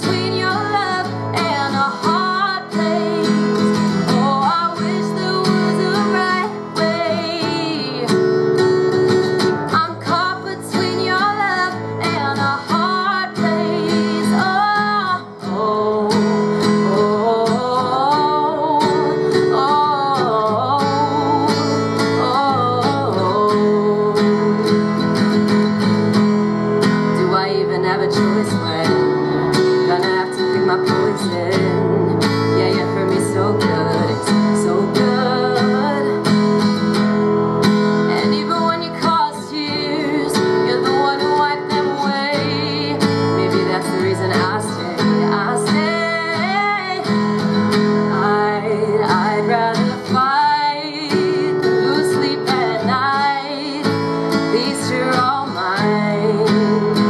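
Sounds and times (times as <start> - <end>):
acoustic guitar strumming: 0.0 - 57.0
woman singing: 0.0 - 57.0.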